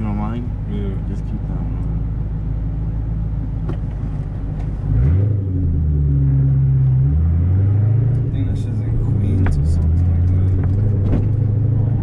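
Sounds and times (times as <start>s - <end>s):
car engine revving: 0.0s - 12.0s
low road rumble: 0.0s - 12.0s.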